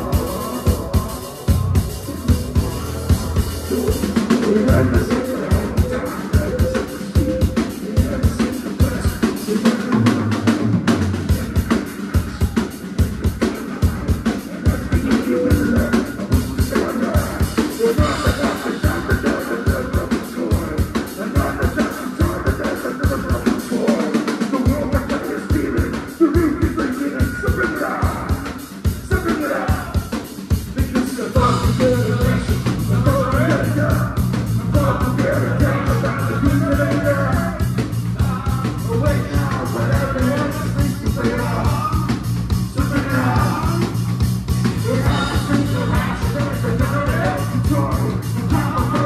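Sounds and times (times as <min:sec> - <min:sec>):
drum kit beat: 0:00.0 - 0:49.0
live rock band: 0:00.0 - 0:49.0.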